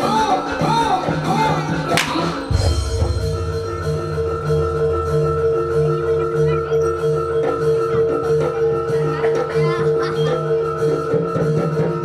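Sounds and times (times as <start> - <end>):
gamelan music: 0.0 - 12.0
pulsing drum beat: 0.0 - 12.0
ringing metallophones: 0.0 - 12.0.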